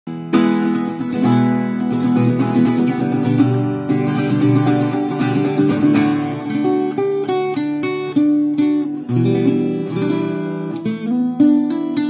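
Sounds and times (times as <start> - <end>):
acoustic guitar chords strummed: 0.1 - 12.0.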